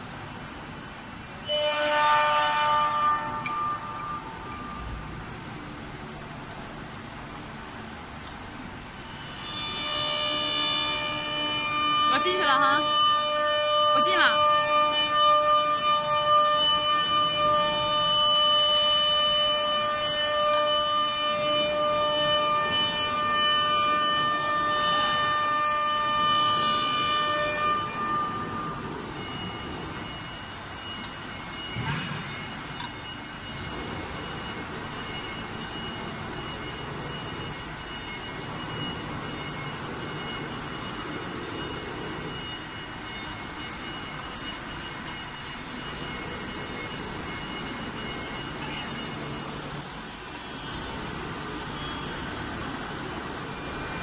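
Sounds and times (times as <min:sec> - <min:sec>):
router spindle high whine: 0:09.0 - 0:54.0.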